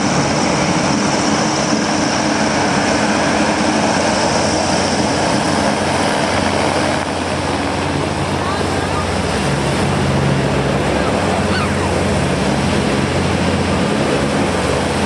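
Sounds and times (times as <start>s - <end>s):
hovercraft propellers droning: 0.0s - 15.0s.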